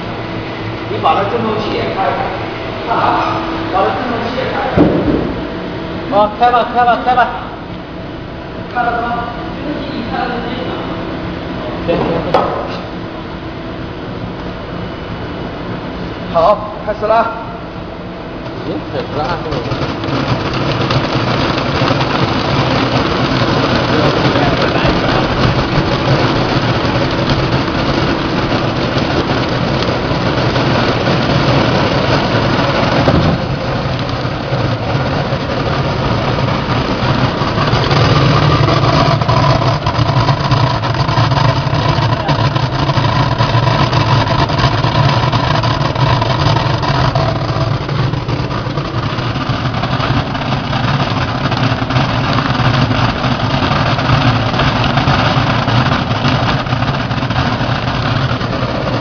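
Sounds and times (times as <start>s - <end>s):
sorting machine humming: 0.0s - 59.0s.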